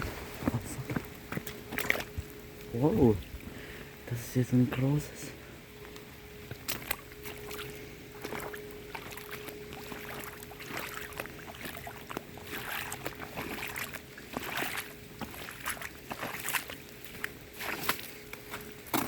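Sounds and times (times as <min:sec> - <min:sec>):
faint steady hum: 0:00.0 - 0:19.0
footsteps splashing through puddles: 0:00.1 - 0:03.5, 0:06.5 - 0:19.0.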